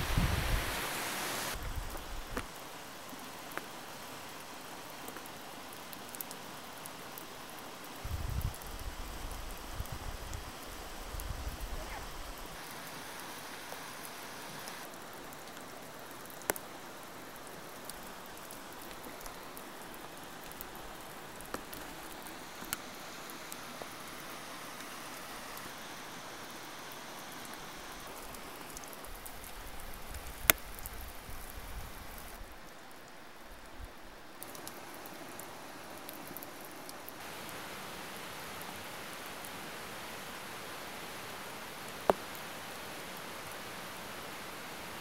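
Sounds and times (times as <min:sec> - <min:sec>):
rain falling on water: 0:00.0 - 0:45.0.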